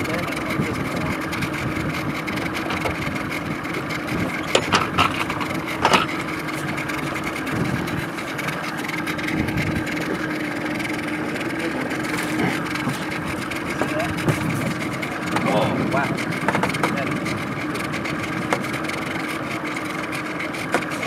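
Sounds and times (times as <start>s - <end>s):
boat motor idling: 0.0s - 21.0s.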